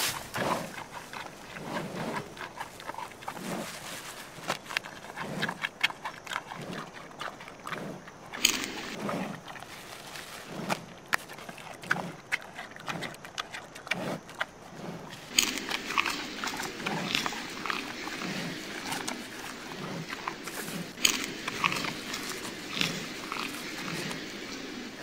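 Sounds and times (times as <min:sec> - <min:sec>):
panda crunching bamboo: 0:00.0 - 0:25.0.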